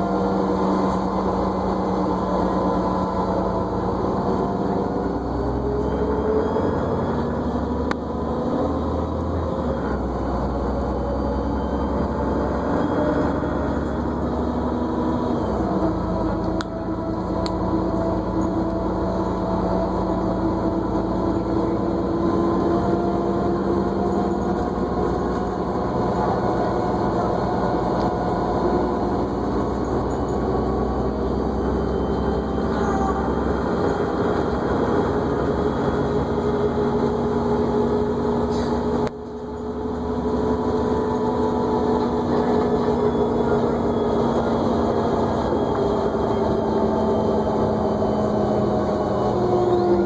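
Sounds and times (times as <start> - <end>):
bus engine running: 0.0 - 50.0
drivetrain whine: 0.0 - 50.0
road rumble: 0.0 - 50.0.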